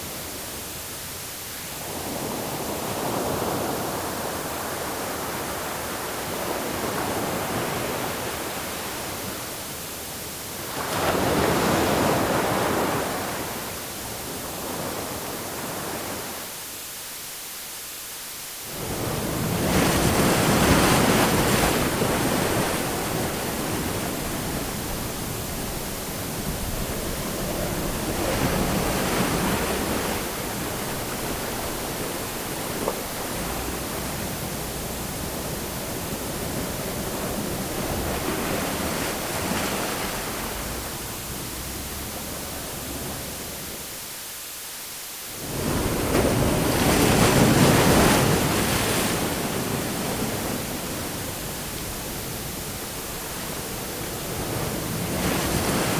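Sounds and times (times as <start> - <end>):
waves washing on shore: 0.0 - 16.6, 18.6 - 44.2, 45.3 - 55.9
hiss of water: 0.0 - 55.9.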